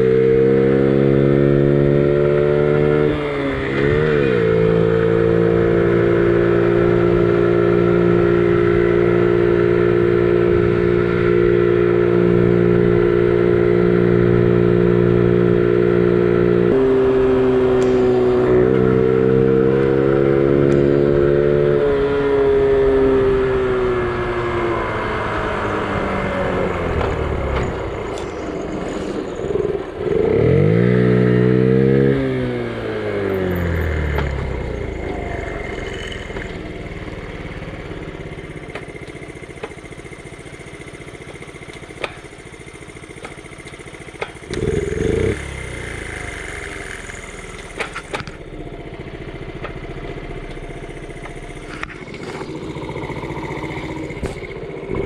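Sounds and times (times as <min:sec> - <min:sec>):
small engine revving: 0:00.0 - 0:40.3, 0:41.4 - 0:55.0.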